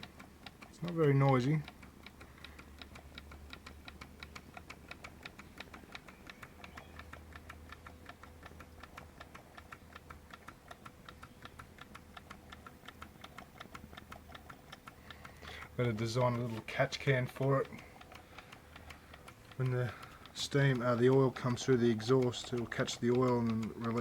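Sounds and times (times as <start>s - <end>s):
steam engine ticking: 0.0s - 24.0s.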